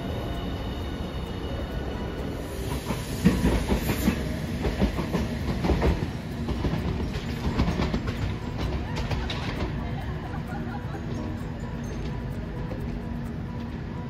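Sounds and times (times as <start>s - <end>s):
rail vehicle rumbling: 0.0s - 14.0s
tram wheels clacking on rail joints: 0.0s - 14.0s.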